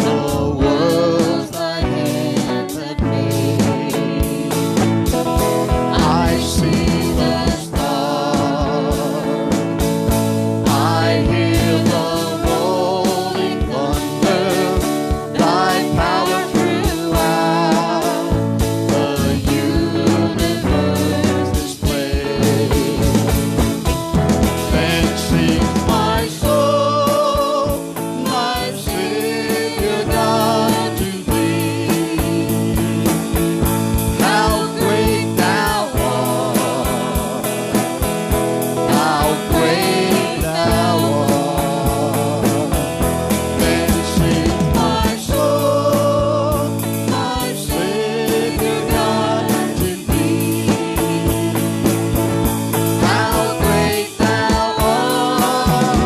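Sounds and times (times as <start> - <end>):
guitar: 0.0 - 56.0
people singing: 0.0 - 56.0
worship band with drum beat: 0.0 - 56.0.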